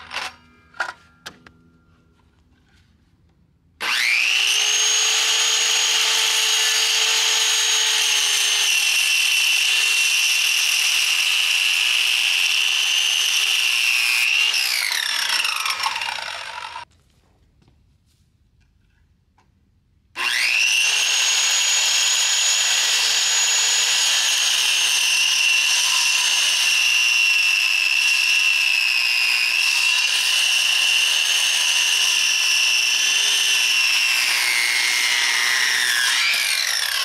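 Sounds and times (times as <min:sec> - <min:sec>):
circular saw cutting wood: 0:03.8 - 0:16.9, 0:20.2 - 0:37.0.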